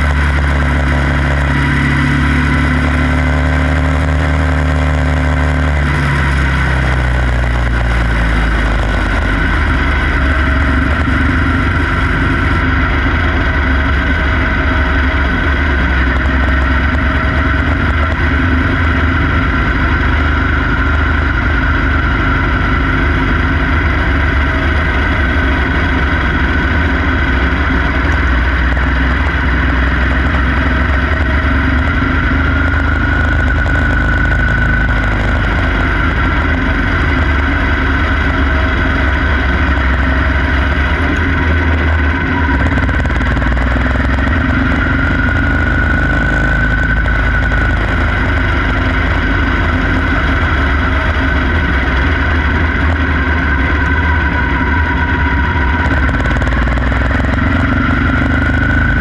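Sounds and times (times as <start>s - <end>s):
small race car engine running: 0.0s - 59.0s.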